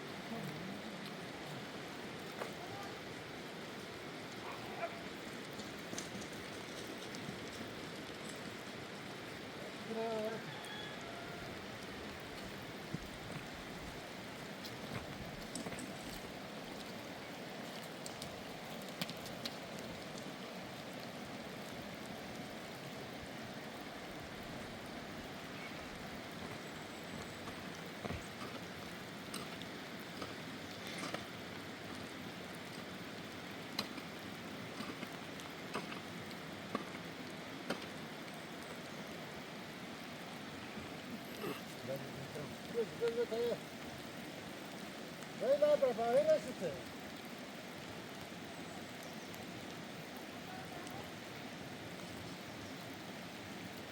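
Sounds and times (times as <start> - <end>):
raindrops ticking on surfaces: 0.0 - 53.9
steady rain: 0.0 - 53.9.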